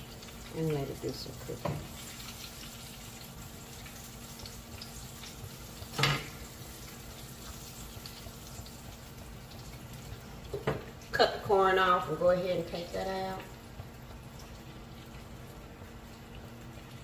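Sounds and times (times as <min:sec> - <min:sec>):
butter sizzling in frying pans: 0:00.0 - 0:17.0.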